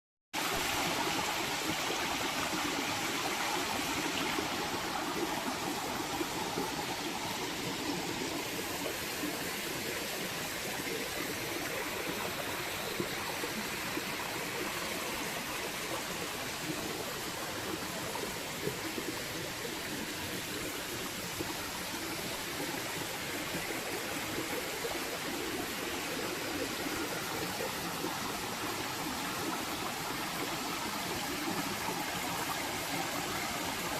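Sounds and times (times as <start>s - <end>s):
flowing water rushing: 0.4s - 33.9s.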